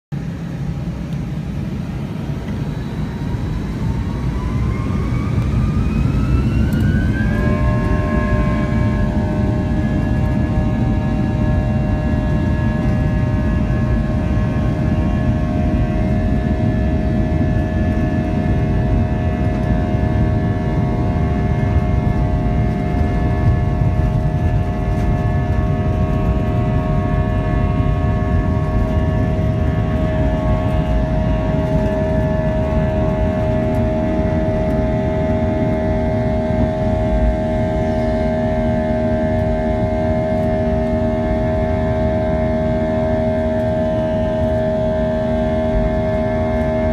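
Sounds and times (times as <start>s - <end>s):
jet engines at takeoff thrust: 0.1s - 46.9s.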